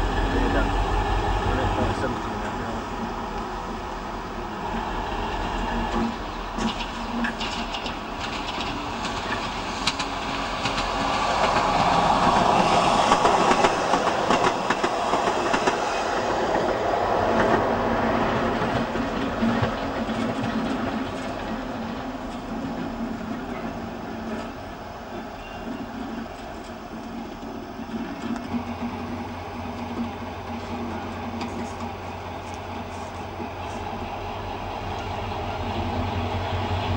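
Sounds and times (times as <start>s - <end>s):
diesel locomotive engines: 0.0s - 36.9s
wheels clicking over rail joints: 5.4s - 36.9s.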